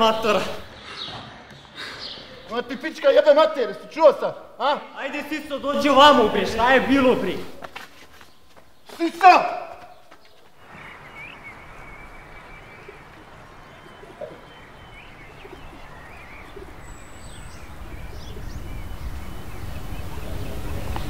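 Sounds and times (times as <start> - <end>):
birds chirping: 0.0 - 21.0
steady background noise: 0.0 - 21.0.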